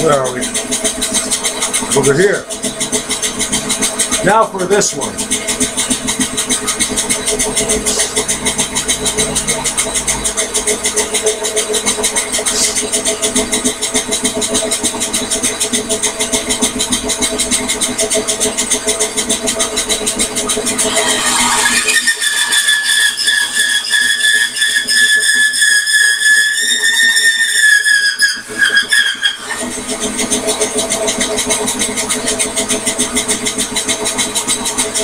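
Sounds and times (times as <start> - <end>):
bandsaw sawing wood: 0.0 - 35.0.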